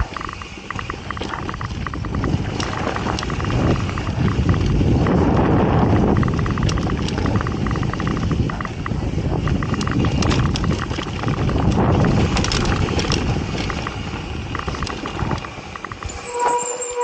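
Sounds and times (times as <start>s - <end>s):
bike freehub clicking: 0.0s - 17.0s
tyres rumbling over gravel: 0.0s - 17.0s
wind buffeting: 0.0s - 17.0s.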